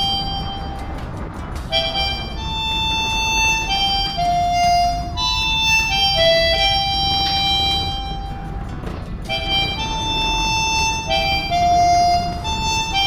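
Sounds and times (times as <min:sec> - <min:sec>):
harmonica slow melody: 0:00.0 - 0:13.0.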